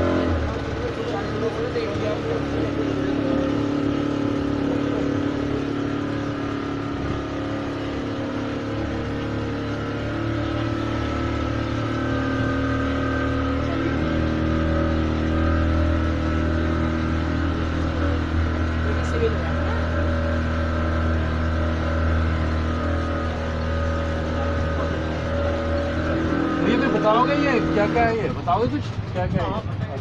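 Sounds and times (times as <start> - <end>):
boat engine running: 0.0 - 30.0
rushing water: 0.0 - 30.0
wind: 0.0 - 30.0.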